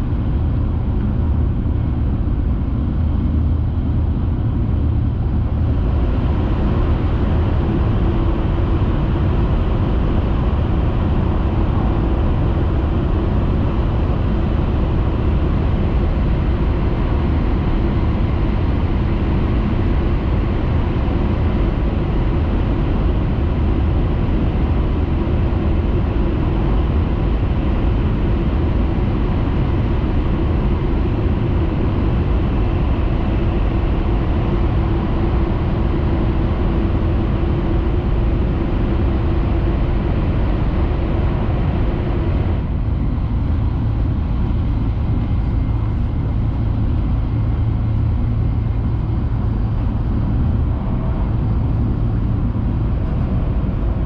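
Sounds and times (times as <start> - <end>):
faint steady hum: 0.0 - 54.0
train cabin running noise: 0.0 - 54.0.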